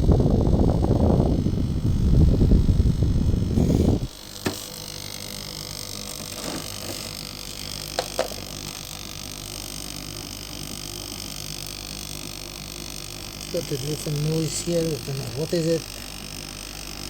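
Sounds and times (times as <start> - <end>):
dehumidifier humming: 0.0 - 17.0.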